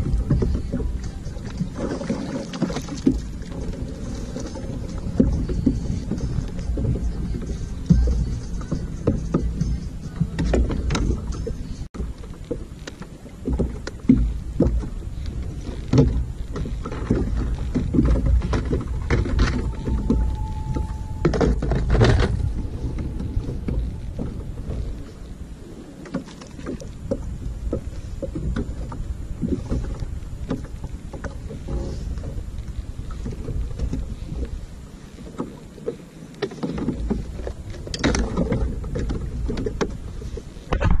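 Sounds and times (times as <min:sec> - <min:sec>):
water slapping against hull: 0:00.0 - 0:41.0
wind buffeting microphone: 0:00.0 - 0:41.0.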